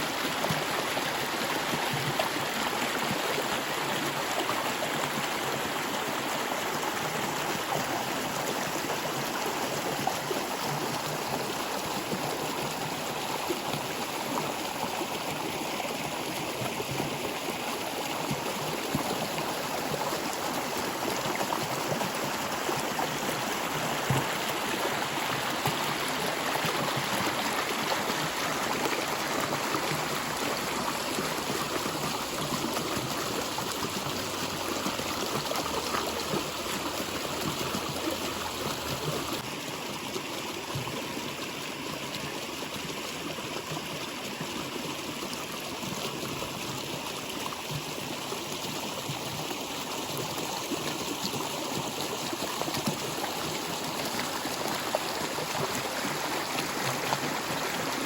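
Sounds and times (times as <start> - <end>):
water flowing over stones: 0.0 - 58.0.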